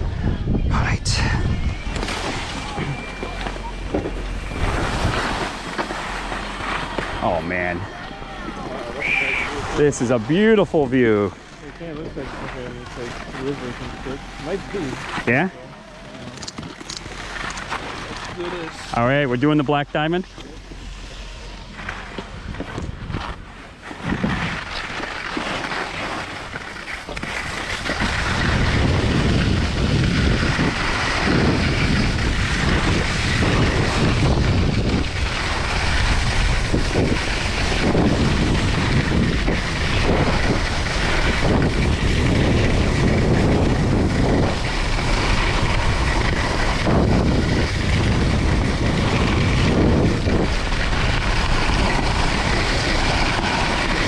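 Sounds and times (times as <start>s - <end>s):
wind rushing over microphone: 0.0s - 15.6s, 22.2s - 24.8s, 26.3s - 54.0s
skis scraping on snow: 1.8s - 54.0s.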